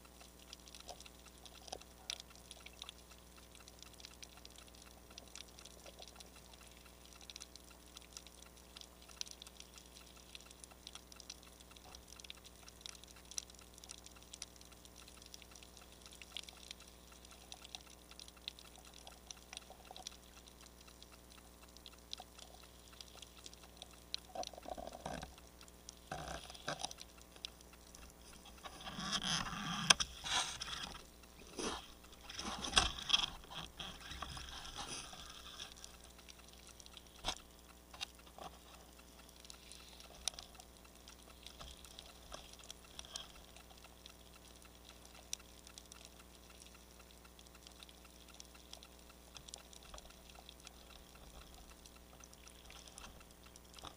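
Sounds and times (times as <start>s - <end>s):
underwater crackle of clicks: 0.0s - 53.9s.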